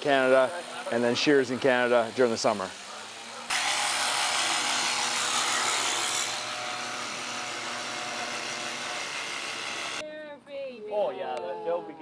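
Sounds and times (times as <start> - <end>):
electric shears cutting fleece: 0.0 - 10.0.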